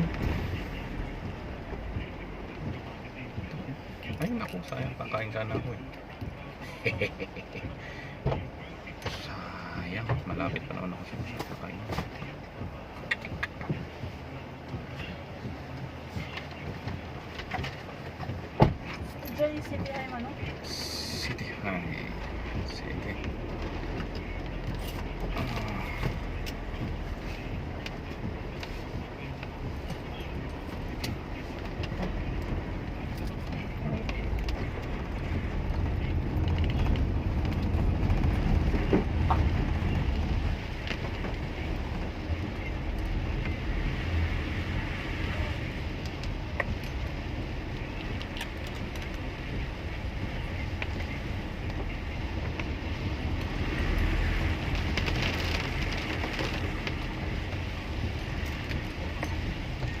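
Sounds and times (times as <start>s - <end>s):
car engine and road rumble: 0.0s - 60.0s
rain and wet-road spray hiss: 0.0s - 60.0s.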